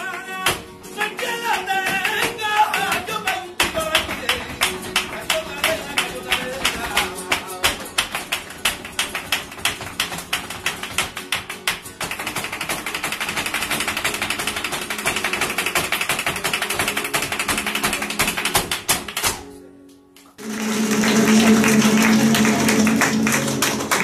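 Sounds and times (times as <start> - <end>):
shoes stamping on wooden stage: 0.0 - 19.5
flamenco guitar: 0.0 - 24.0.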